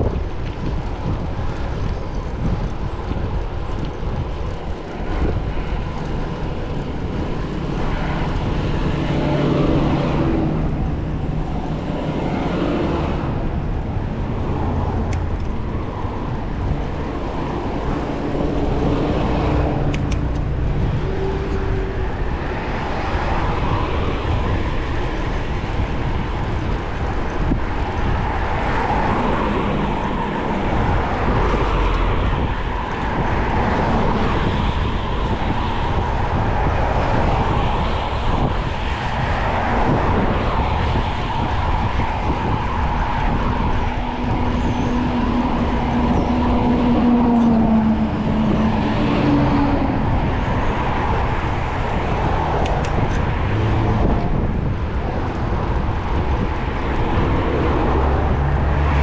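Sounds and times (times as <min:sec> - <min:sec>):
motor traffic passing: 0:00.0 - 0:59.0
road and wind rumble: 0:00.0 - 0:59.0.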